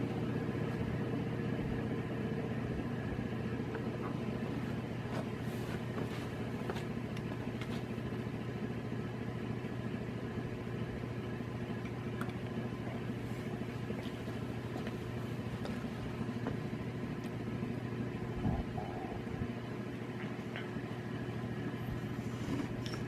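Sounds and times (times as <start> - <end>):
ceiling fan humming and whirring: 0.0 - 23.0.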